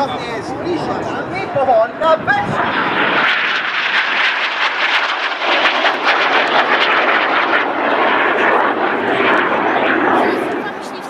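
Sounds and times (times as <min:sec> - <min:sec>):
jet engine flying past: 0:00.0 - 0:11.0.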